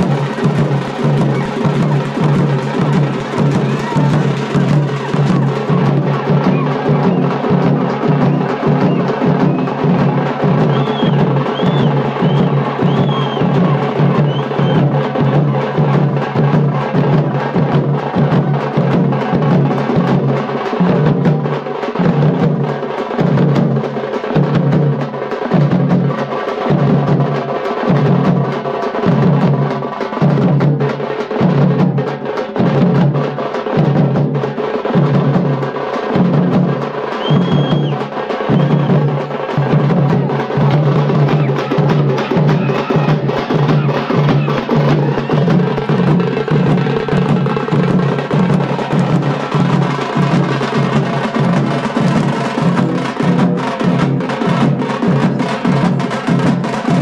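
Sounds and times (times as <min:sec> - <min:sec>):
large drums beating: 0:00.0 - 0:57.0.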